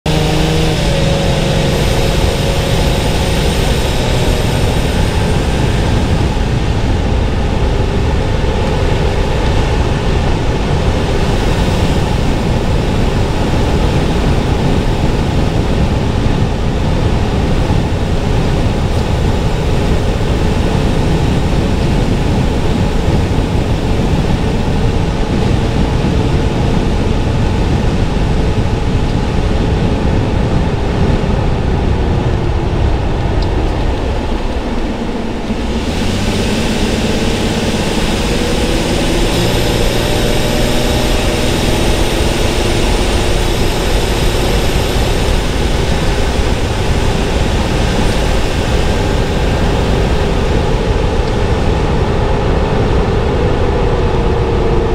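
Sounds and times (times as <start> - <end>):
car road and engine noise: 0.0 - 54.9.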